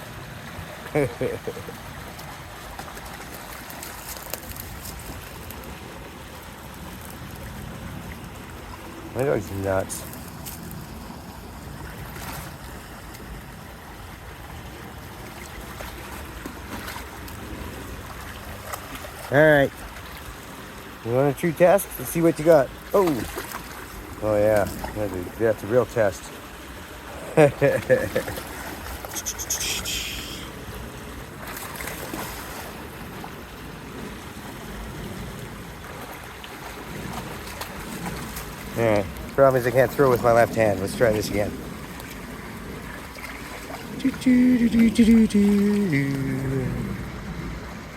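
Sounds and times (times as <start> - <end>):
creek water rushing: 0.0 - 47.9
faint water splashes: 0.0 - 47.9.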